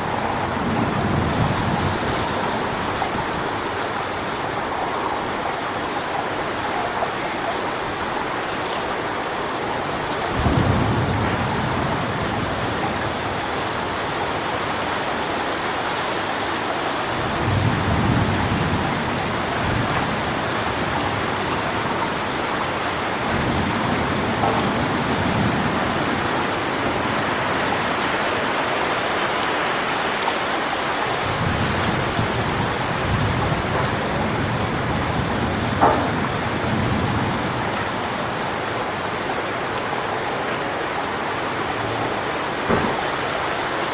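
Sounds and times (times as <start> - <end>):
strong wind through palm fronds: 0.0 - 43.9.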